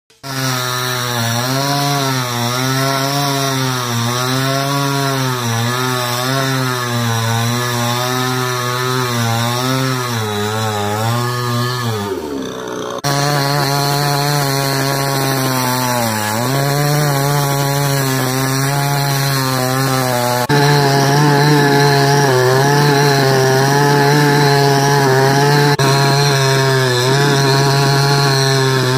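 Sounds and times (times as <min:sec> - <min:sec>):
chainsaw cutting tree trunk: 0:00.1 - 0:28.9.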